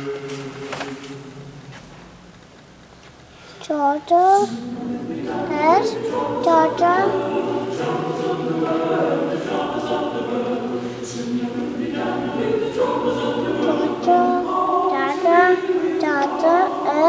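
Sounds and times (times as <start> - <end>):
mixed choir singing a cappella: 0.0 - 2.2, 4.1 - 17.0.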